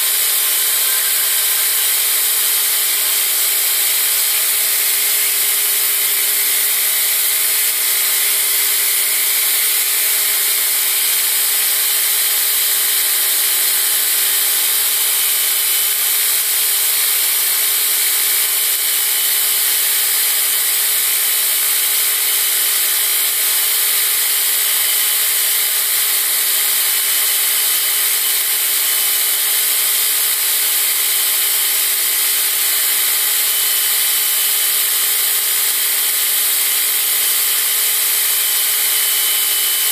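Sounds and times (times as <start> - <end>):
belt grinder whirring hiss: 0.0 - 39.9.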